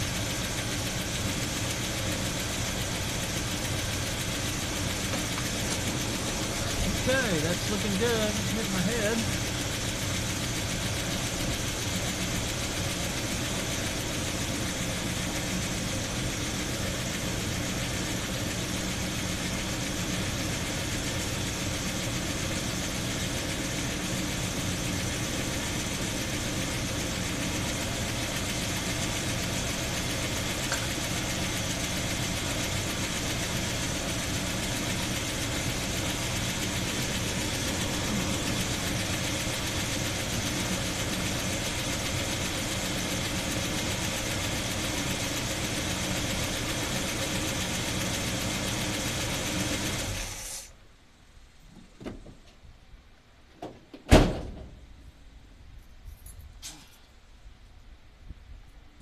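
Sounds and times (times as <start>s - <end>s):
car engine idling: 0.0s - 51.2s.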